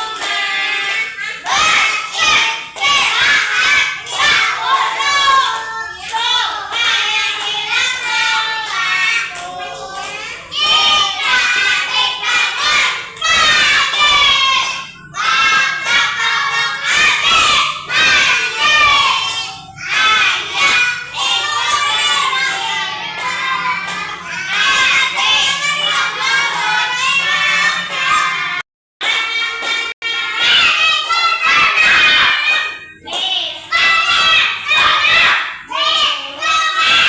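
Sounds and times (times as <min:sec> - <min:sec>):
children shouting and chanting: 0:00.0 - 0:37.0.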